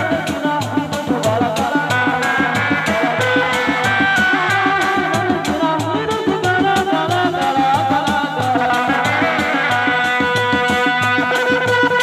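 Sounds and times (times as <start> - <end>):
frame drums beaten fast: 0.0 - 12.0
reedy wind instrument melody: 0.0 - 12.0.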